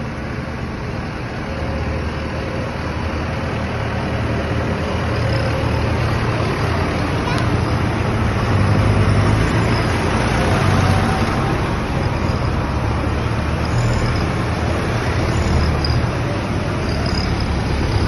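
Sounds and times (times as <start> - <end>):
tractor engines droning: 0.0 - 18.0
tyres on wet road: 0.0 - 18.0.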